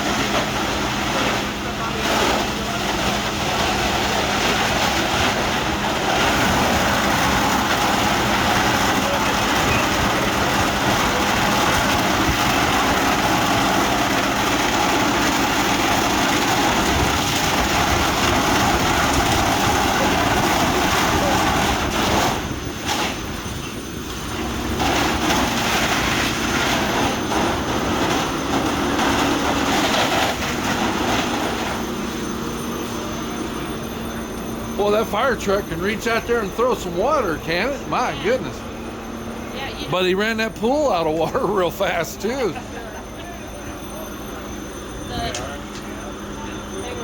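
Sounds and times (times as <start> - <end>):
fire truck engine roaring: 0.0 - 47.0.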